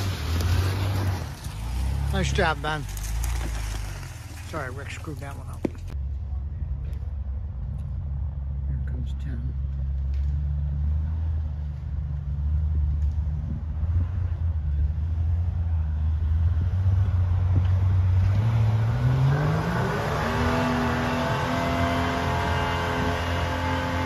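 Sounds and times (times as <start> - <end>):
jeep engine running and revving: 0.0 - 6.0, 7.3 - 24.0.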